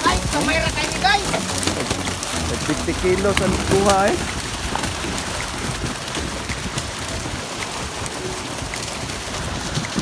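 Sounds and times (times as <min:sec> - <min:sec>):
small ticks and drips: 0:00.0 - 0:10.0
water pattering and splashing: 0:00.0 - 0:10.0.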